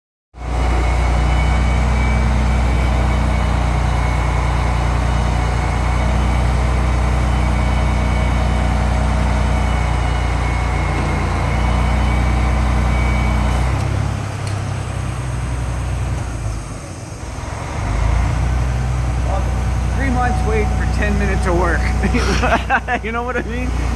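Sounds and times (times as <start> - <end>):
large engine humming: 0.4 - 23.9.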